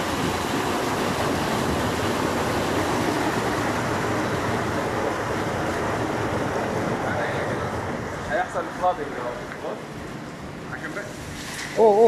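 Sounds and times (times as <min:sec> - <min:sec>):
circulation pump running: 0:00.0 - 0:12.0
water rushing through a flume: 0:00.0 - 0:12.0.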